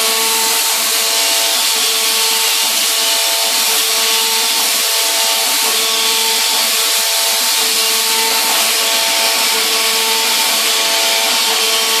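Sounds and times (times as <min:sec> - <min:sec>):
hydraulic tyre-cutting machine hum: 0:00.0 - 0:12.0.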